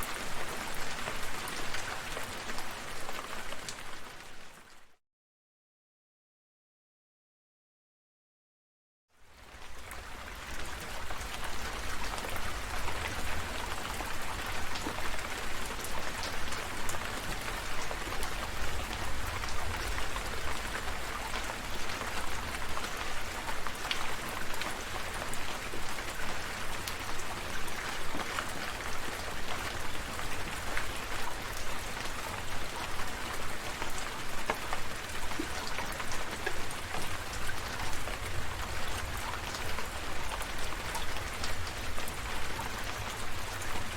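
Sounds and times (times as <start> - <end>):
rain falling: 0.0 - 4.9, 9.3 - 43.9.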